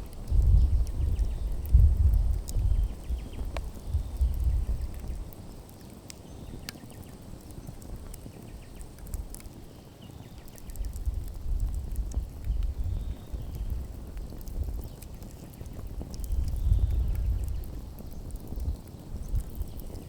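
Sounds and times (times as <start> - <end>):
campfire crackles and pops: 0.0 - 20.0.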